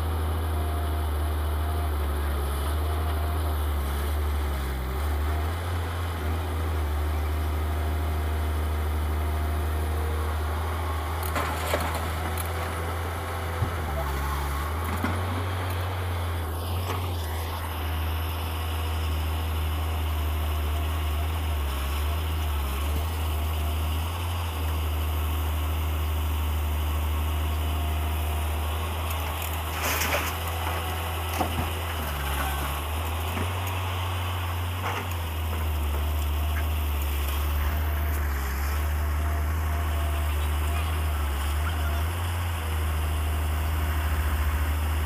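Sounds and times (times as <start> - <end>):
excavator diesel engine droning: 0.0 - 45.0.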